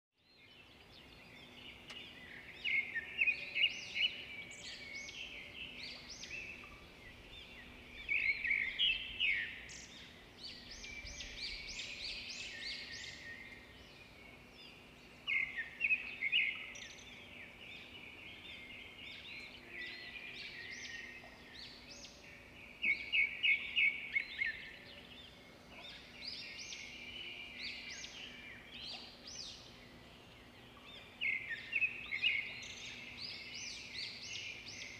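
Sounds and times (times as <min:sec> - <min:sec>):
songbird chirping: 0:00.2 - 0:34.9.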